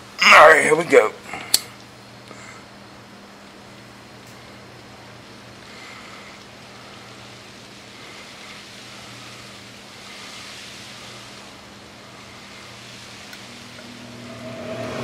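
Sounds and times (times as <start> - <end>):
low even hum: 0.0 - 15.0
lighter flame hissing: 1.4 - 15.0.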